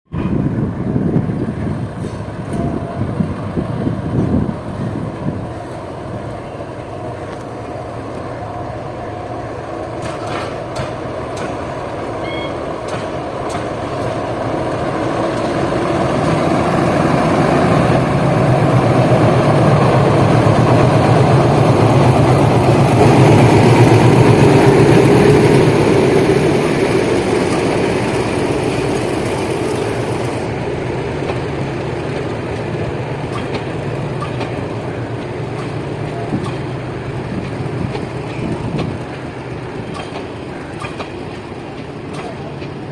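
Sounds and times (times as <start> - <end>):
train wheels rumbling on rails: 0.1 - 42.9.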